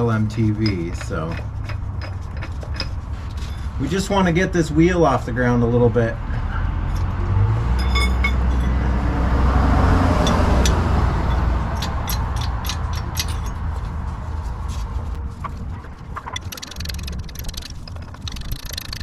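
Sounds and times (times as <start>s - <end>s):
road vehicle passing: 0.0s - 19.0s.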